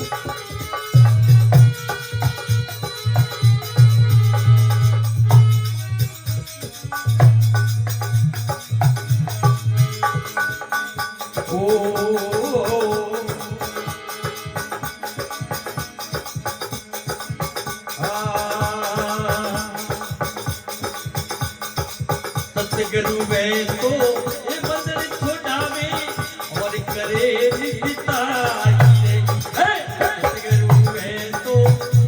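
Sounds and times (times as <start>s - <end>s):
rattling hand percussion: 0.0s - 32.0s.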